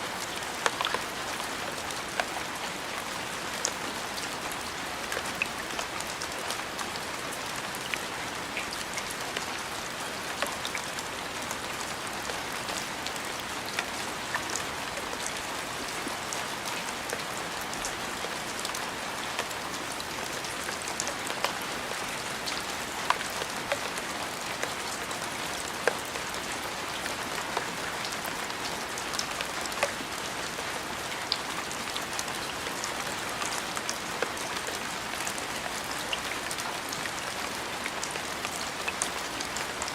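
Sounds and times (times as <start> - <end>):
raindrops ticking close by: 0.0 - 39.9
steady rain hiss: 0.0 - 39.9.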